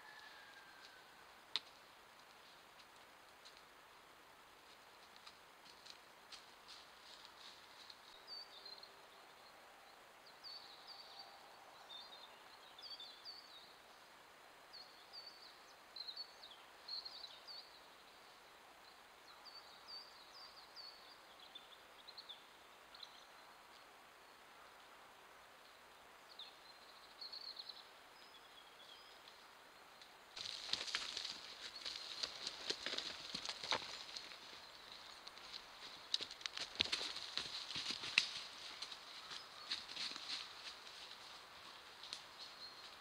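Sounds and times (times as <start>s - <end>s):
songbird chirping: 0.0s - 43.0s
steady low hiss: 0.0s - 43.0s.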